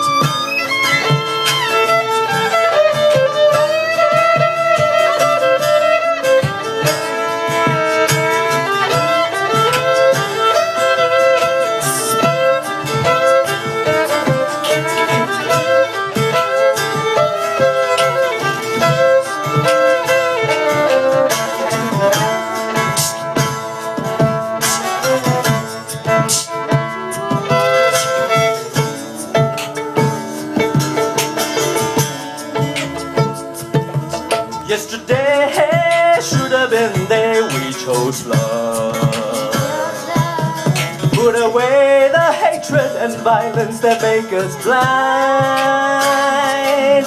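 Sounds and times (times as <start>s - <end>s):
fiddle melody: 0.0s - 47.0s
strummed guitar: 0.0s - 47.0s.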